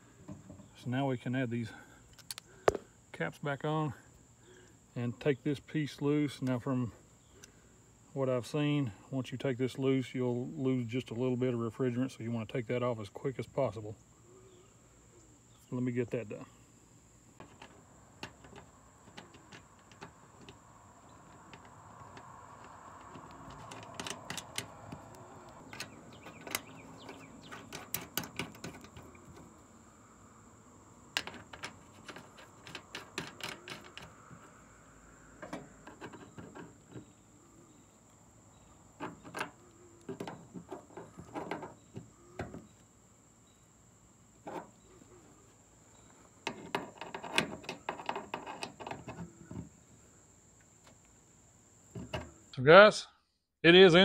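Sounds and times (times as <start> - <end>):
high insect trill: 0.0 - 52.6.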